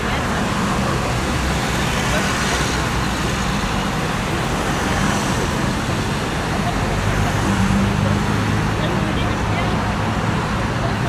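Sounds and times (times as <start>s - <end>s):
traffic rushing: 0.0s - 11.0s.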